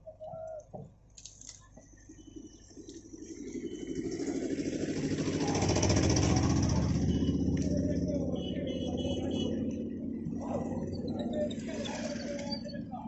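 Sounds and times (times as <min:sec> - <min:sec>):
diesel engine revving: 0:02.2 - 0:13.0.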